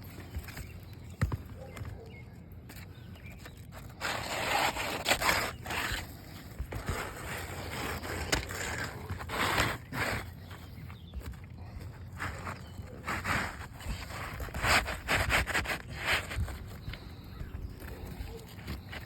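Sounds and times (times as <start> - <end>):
scraping on roof shingles: 3.4 - 19.0.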